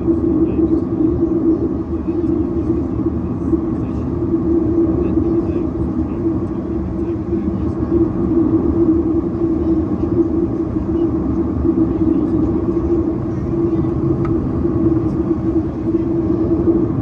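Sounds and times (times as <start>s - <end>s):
aircraft cabin engine drone: 0.0s - 17.0s
constant low hum: 0.0s - 17.0s.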